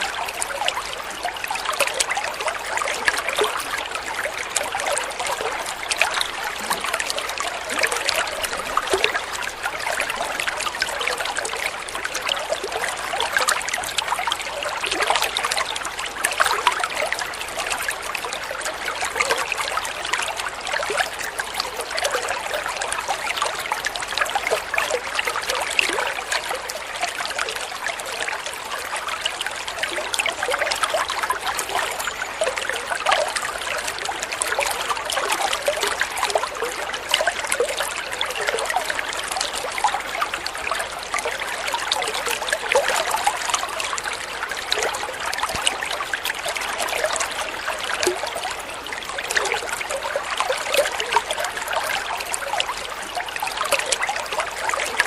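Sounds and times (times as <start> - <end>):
shallow water flowing and trickling: 0.0 - 55.0
small water splashes and gurgles: 0.0 - 55.0.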